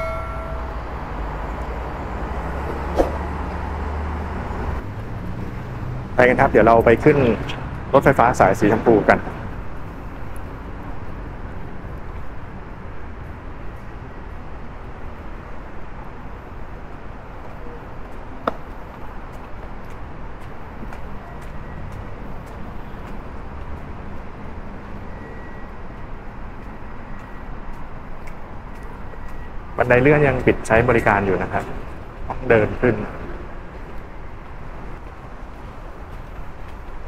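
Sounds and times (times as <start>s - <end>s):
city road traffic hum: 0.0s - 37.0s.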